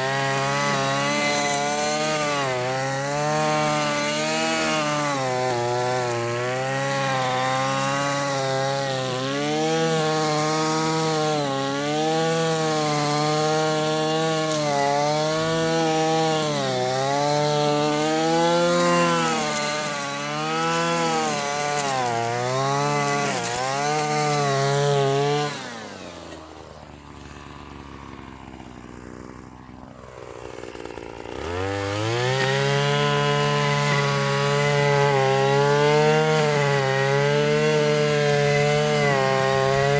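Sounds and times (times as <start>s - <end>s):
gas string trimmer running: 0.0s - 39.9s.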